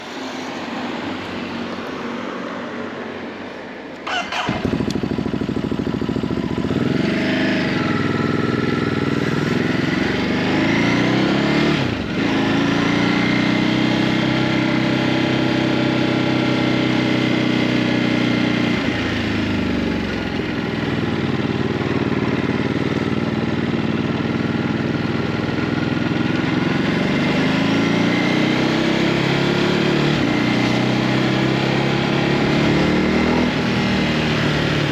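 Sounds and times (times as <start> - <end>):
motorcycle engine revving: 4.0 - 34.9.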